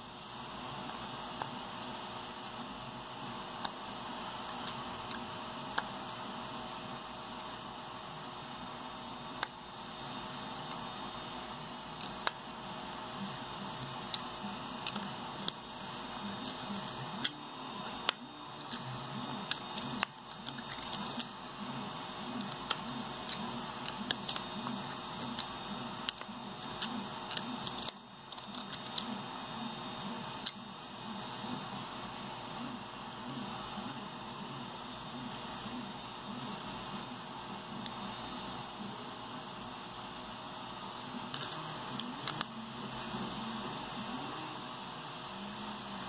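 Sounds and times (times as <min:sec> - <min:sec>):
steady hiss and hum: 0:00.0 - 0:46.0.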